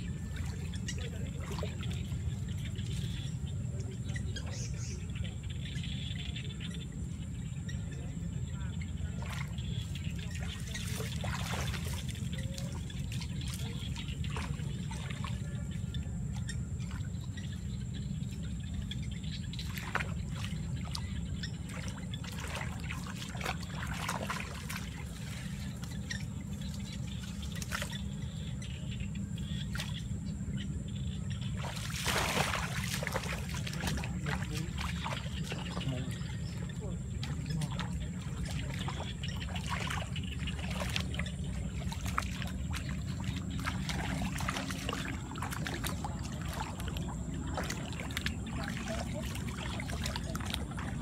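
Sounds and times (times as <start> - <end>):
muddy water splashing: 0.0 - 51.0
steady low rumble: 0.0 - 51.0.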